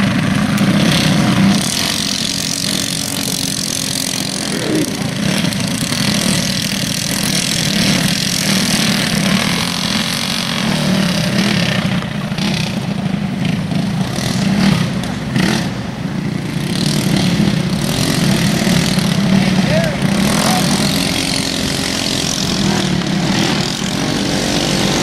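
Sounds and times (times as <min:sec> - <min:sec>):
go-kart engines droning: 0:00.0 - 0:25.0.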